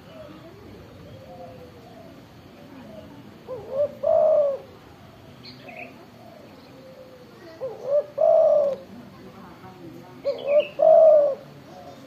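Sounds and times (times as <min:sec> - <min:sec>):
dove cooing: 0:00.0 - 0:09.1, 0:10.2 - 0:12.0.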